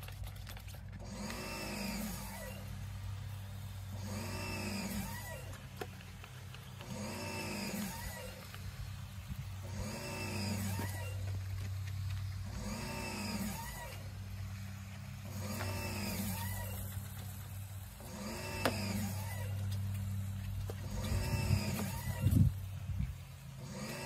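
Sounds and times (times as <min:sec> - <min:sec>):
motor humming: 0:00.6 - 0:24.0.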